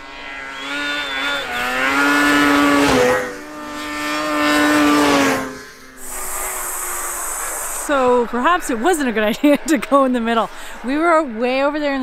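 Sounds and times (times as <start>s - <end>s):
snowmobiles speeding past: 0.0s - 12.0s.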